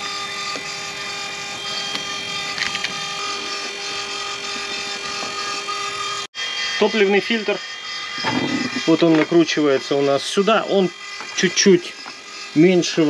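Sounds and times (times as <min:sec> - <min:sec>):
electric pump running: 0:00.0 - 0:13.0.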